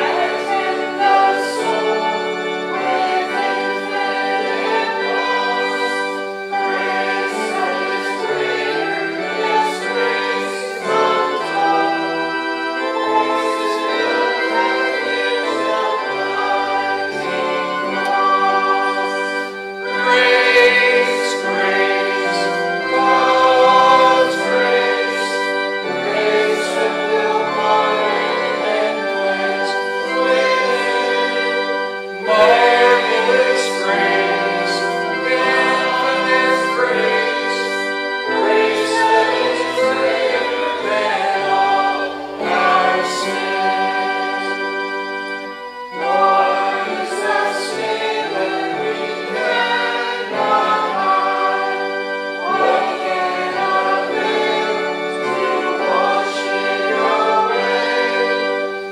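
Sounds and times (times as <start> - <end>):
congregation singing a hymn: 0.0 - 58.9
organ accompaniment: 0.0 - 58.9.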